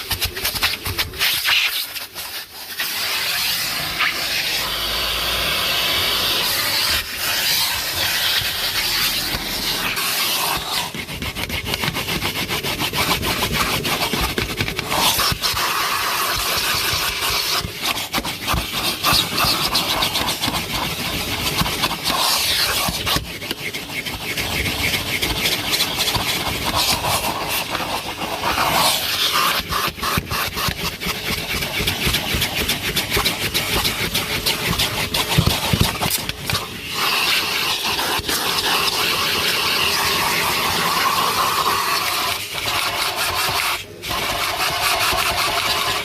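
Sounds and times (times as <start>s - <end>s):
vacuum cleaner running: 0.0s - 46.0s.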